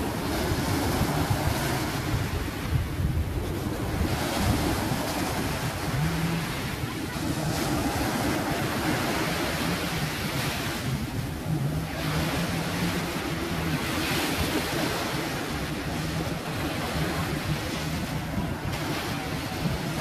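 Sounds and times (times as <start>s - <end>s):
waves washing on beach: 0.0s - 20.0s
wind buffeting microphone: 0.0s - 20.0s.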